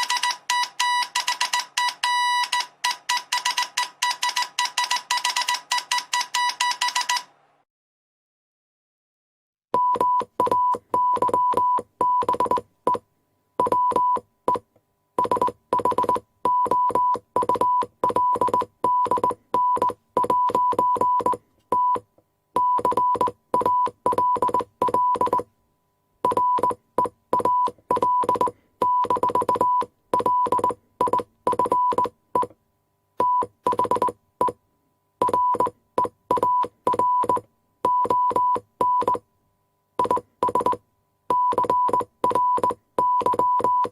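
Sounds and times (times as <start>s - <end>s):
morse code beeps: 0.0s - 7.3s, 9.8s - 13.0s, 13.6s - 14.6s, 15.2s - 22.0s, 22.6s - 25.5s, 26.2s - 32.5s, 33.2s - 34.6s, 35.2s - 39.2s, 40.0s - 43.9s.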